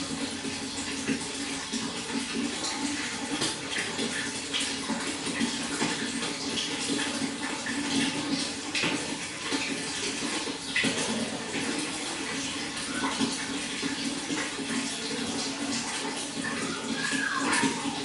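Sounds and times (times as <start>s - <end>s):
water running and splashing: 0.0s - 18.0s.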